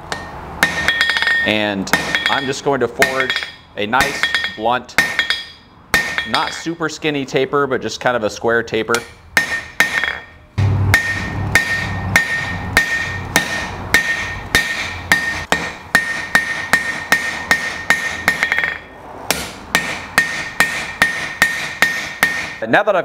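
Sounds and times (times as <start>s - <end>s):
hammer striking hot steel on anvil: 0.0s - 6.7s, 8.9s - 22.6s.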